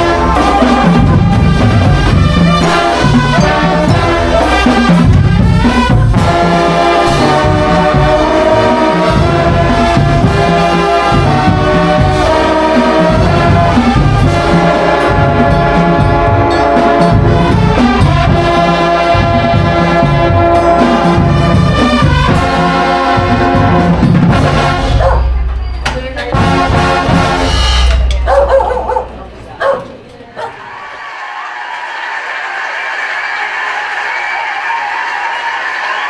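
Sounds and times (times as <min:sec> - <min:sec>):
marching drums beating: 0:00.0 - 0:29.2
bugles playing chords: 0:00.0 - 0:29.5.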